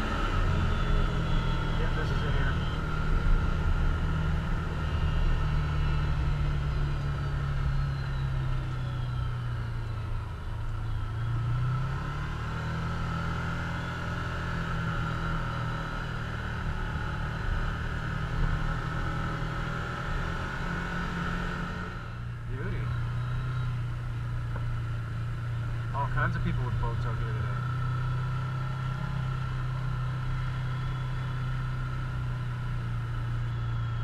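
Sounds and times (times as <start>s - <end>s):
engine running: 0.0s - 34.0s
gravel road noise: 0.0s - 34.0s.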